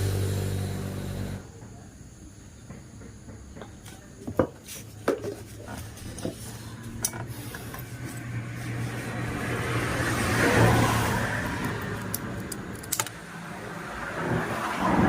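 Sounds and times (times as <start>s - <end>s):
low vehicle engine hum: 0.0s - 3.4s, 5.4s - 15.0s.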